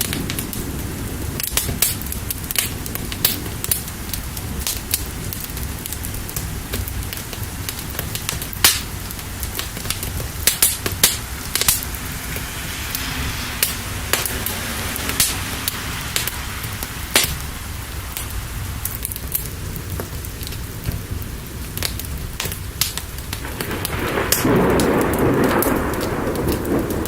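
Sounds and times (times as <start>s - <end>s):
rain rushing: 0.0s - 27.0s
wood fire crackling: 0.0s - 27.0s.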